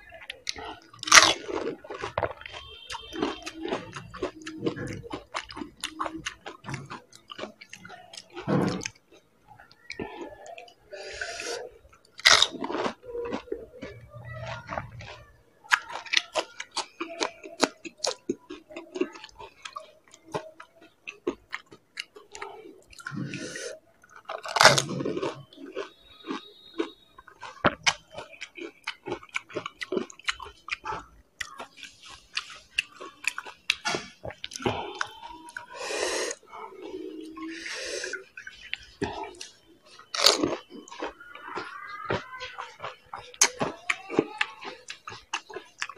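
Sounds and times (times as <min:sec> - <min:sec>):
crunching and chewing: 0:00.0 - 0:45.9.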